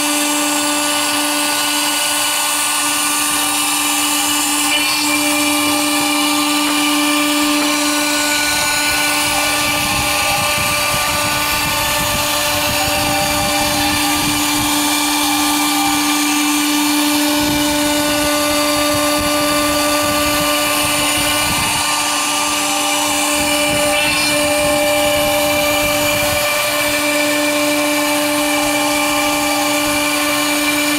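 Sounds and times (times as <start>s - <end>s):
bit cutting wood: 0.0s - 30.9s
router spindle high whine: 0.0s - 30.9s.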